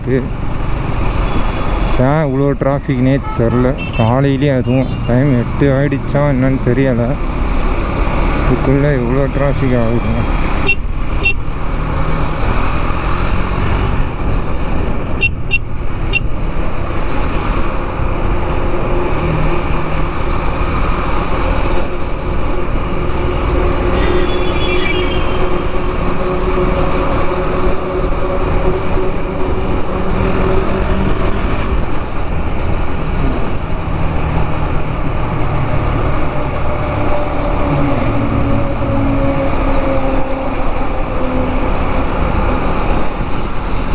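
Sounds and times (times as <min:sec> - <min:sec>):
traffic: 0:00.0 - 0:43.9.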